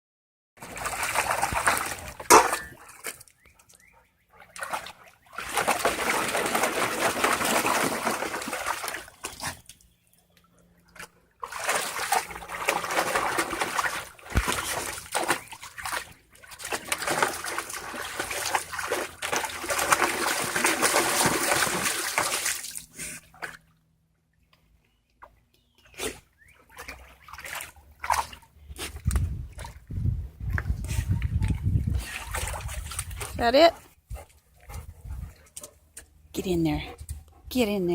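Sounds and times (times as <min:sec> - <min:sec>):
dog splashing water: 0:00.6 - 0:03.3, 0:04.3 - 0:09.9, 0:10.8 - 0:23.7, 0:26.1 - 0:29.8, 0:30.4 - 0:35.8.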